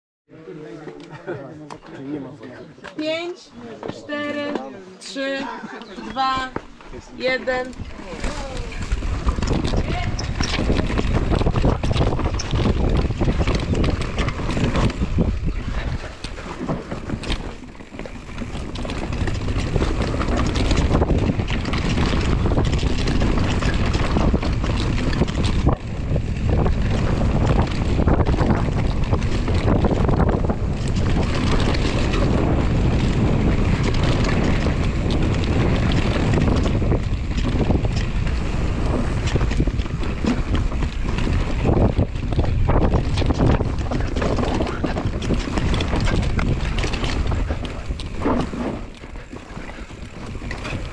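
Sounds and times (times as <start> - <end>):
wind buffeting microphone: 3.1 - 50.9
bike rattling and knocking: 5.2 - 50.9
tyres rumbling on dirt: 5.2 - 50.9.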